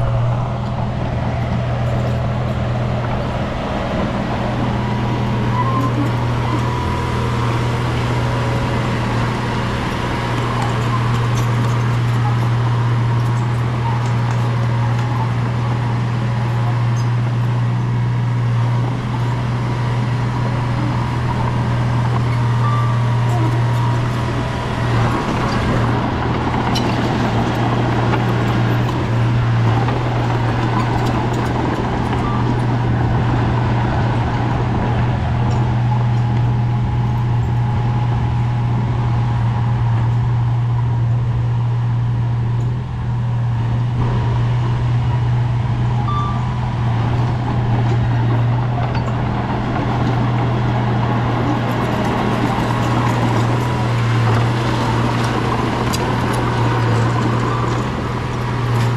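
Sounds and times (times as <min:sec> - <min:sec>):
bulldozer diesel engine humming: 0:00.0 - 0:58.9.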